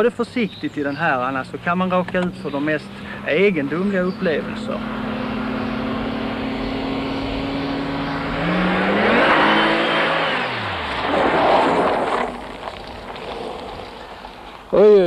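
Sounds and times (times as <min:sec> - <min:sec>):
car engine revving: 0:00.8 - 0:14.5
rush of tyre noise: 0:02.0 - 0:15.0.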